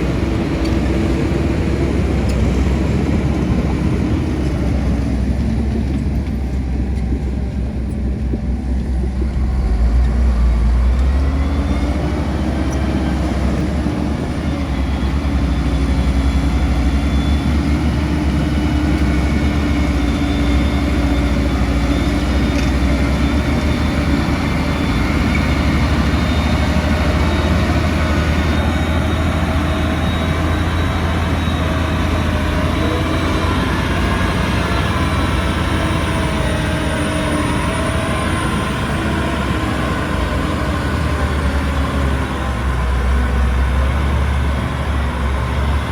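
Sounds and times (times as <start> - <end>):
diesel earthmoving machinery running: 0.0 - 45.9.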